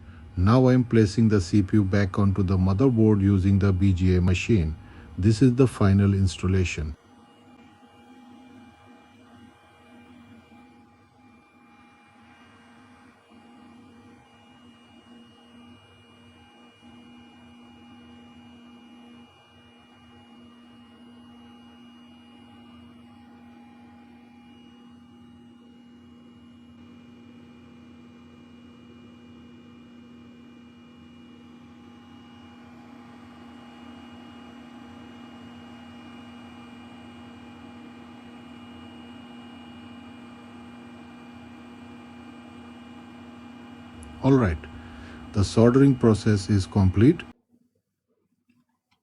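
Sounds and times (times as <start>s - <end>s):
fans and heaters humming: 0.0s - 47.4s.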